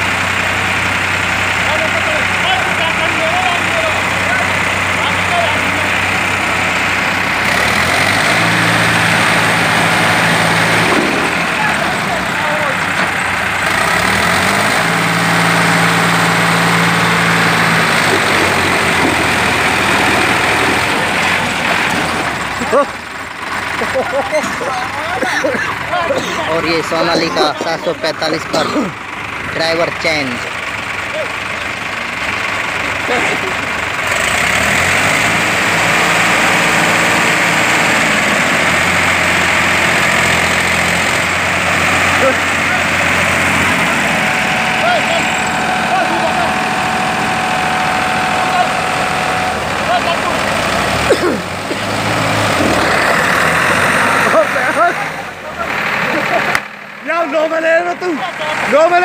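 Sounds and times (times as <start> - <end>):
diesel tractor engines running: 0.0 - 59.0.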